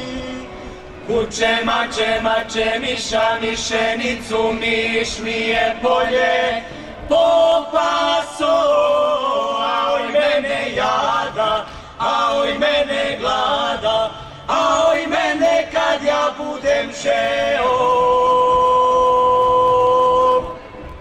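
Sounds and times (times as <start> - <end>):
group singing folk song: 0.0 - 21.0.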